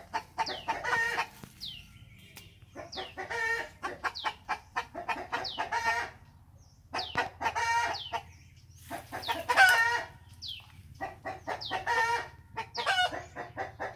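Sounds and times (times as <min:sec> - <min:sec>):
chickens cackling: 0:00.0 - 0:13.9.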